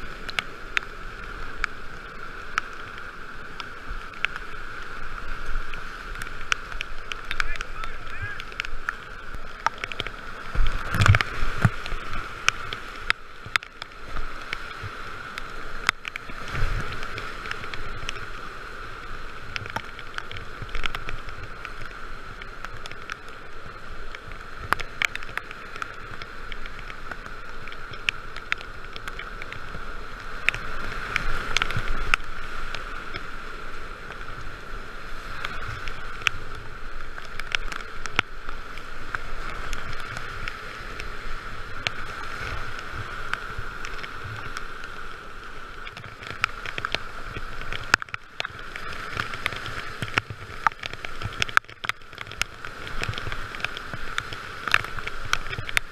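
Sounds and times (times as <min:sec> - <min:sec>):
whitewater rapids rushing: 0:00.0 - 0:55.9.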